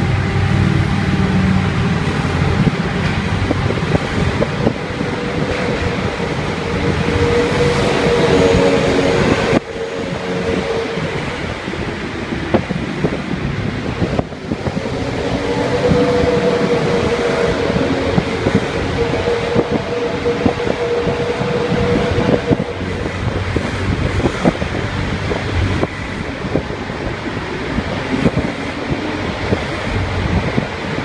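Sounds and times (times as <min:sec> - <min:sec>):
vehicle rumble and hum: 0:00.0 - 0:31.0.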